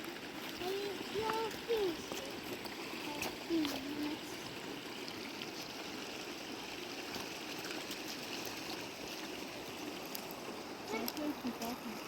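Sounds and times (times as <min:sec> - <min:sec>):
river water rushing over stones: 0:00.0 - 0:12.0.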